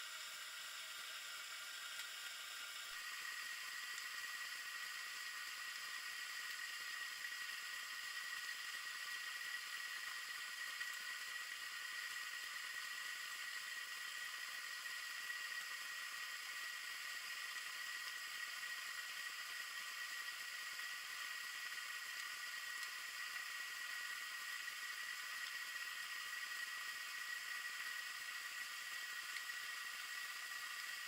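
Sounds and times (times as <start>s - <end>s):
underwater hiss with high whine: 0.0s - 31.0s.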